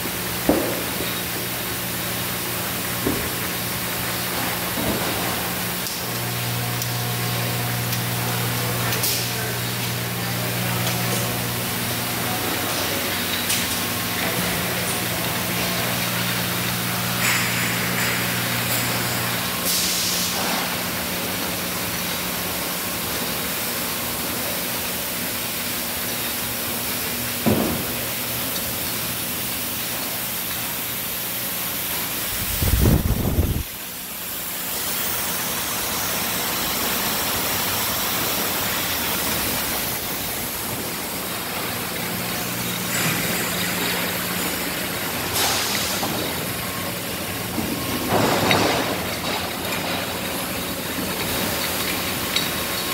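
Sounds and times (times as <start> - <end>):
machinery hiss and motor hum: 0.0 - 52.9.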